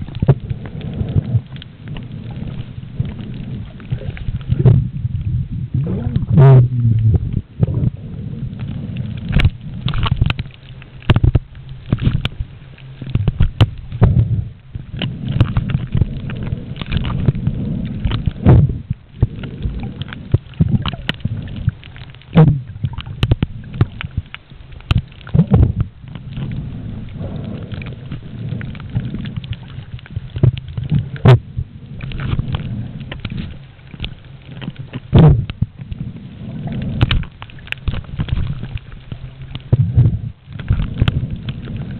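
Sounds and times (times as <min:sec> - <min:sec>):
muffled underwater water rumbling: 0:00.0 - 0:41.9.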